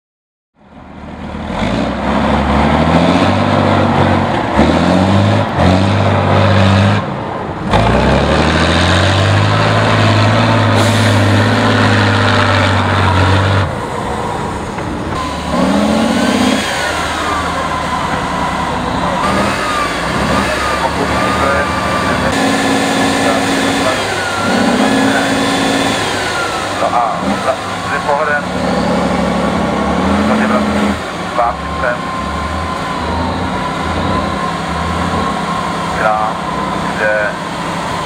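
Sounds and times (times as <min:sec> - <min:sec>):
diesel truck engines revving: 0:00.6 - 0:38.0.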